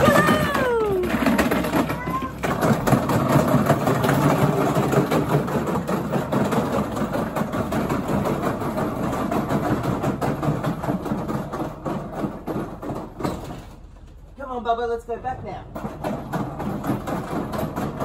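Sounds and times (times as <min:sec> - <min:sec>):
toy car wheels rolling on pavers: 0:00.0 - 0:18.0.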